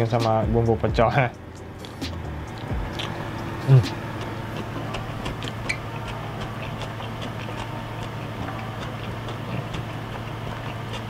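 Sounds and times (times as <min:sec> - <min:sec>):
steady low hum: 0:00.0 - 0:11.0
mouth chewing with wet clicks: 0:01.8 - 0:11.0.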